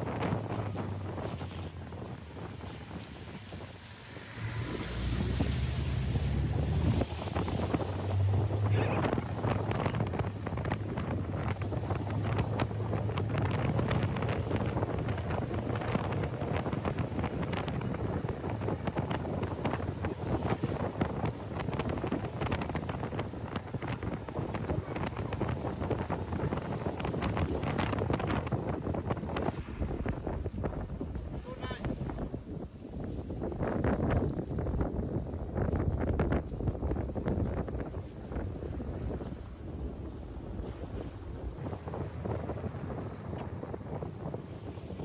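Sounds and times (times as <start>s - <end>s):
low engine hum: 0.0s - 45.0s
wind buffeting microphone: 0.0s - 45.0s.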